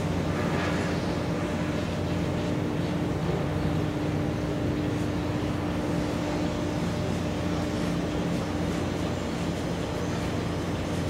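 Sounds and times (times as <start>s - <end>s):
ship diesel engines droning: 0.0s - 11.0s.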